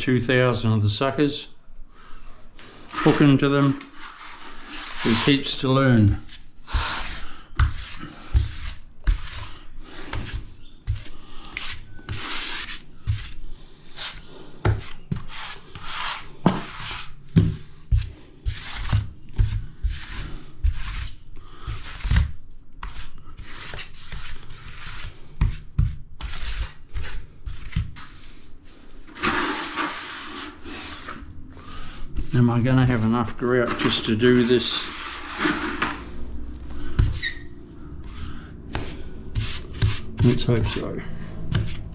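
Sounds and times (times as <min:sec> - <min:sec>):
grout float scraping tiles: 0:02.6 - 0:41.9.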